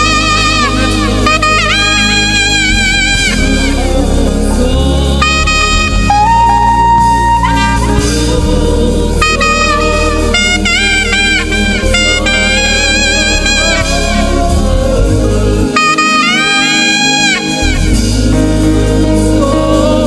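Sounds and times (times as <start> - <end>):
bass and keyboard accompaniment: 0.0 - 20.0
saxophone melody with vibrato: 0.0 - 20.0.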